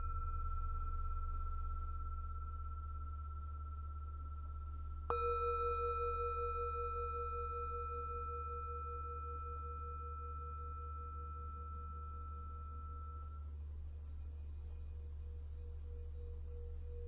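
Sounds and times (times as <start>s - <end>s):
singing bowl ringing: 0.0s - 17.0s
steady low hum: 0.0s - 17.0s.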